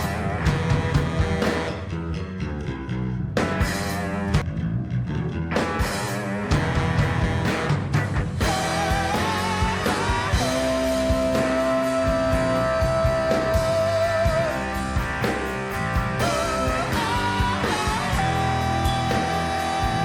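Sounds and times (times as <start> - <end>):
lead guitar line: 0.0 - 20.0
live rock band playing: 0.0 - 20.0.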